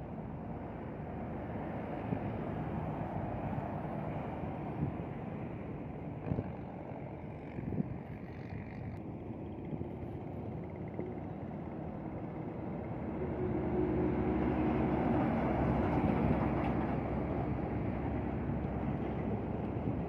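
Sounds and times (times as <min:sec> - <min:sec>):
trucks driving past: 0:00.0 - 0:20.0.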